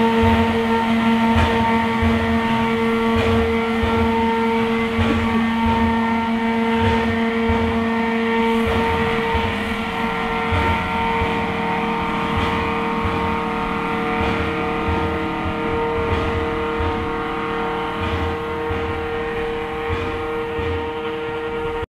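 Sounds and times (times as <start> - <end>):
low exhaust beats: 0.0 - 21.9
steam train running: 0.0 - 21.9.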